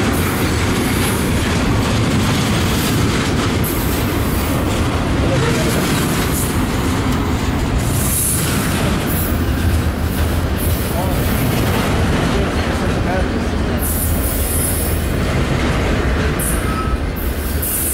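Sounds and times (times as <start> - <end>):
freight train wheels rumbling: 0.0 - 17.9.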